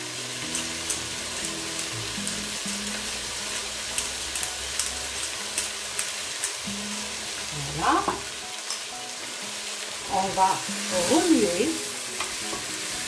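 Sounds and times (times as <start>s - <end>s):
onions sizzling in hot oil: 0.0s - 13.0s
soft background music: 0.0s - 13.0s.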